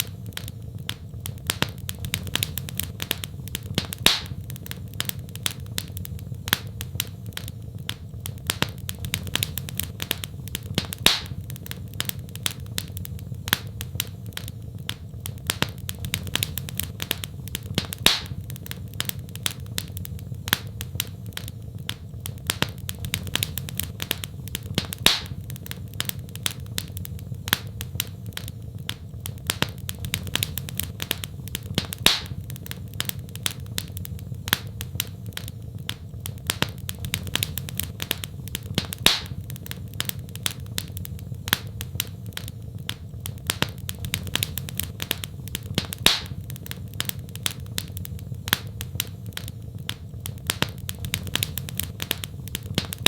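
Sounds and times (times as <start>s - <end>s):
loud fire pop: 0.0s - 53.0s
wood fire crackling: 0.0s - 53.0s.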